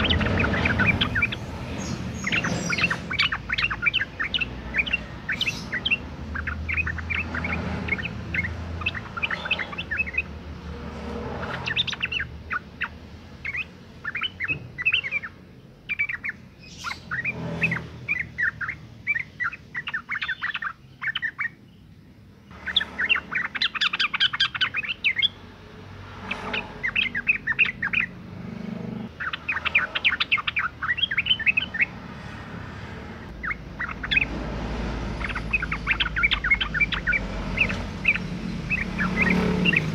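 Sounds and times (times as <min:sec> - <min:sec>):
bird chattering calls: 0:00.0 - 0:10.4, 0:11.2 - 0:21.6, 0:22.5 - 0:25.4, 0:26.2 - 0:32.4, 0:33.2 - 0:39.9.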